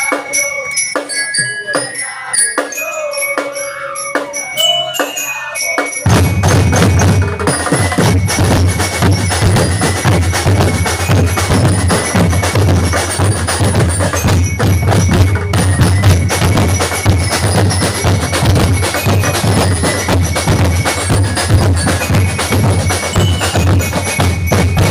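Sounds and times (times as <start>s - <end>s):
busy drums: 0.0s - 24.9s
instrumental band music: 0.0s - 24.9s.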